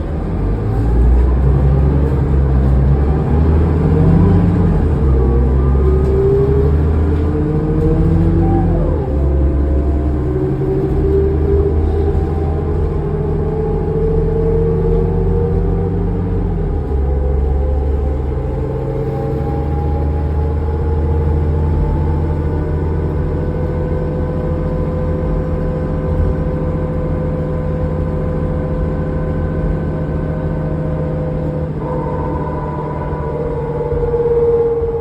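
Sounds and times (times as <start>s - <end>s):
bus diesel engine drone: 0.0s - 35.0s.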